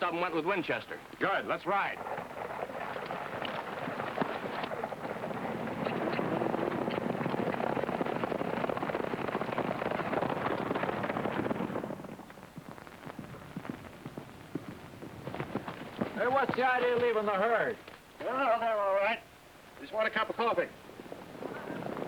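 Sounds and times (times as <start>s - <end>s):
horses galloping: 0.0s - 22.0s.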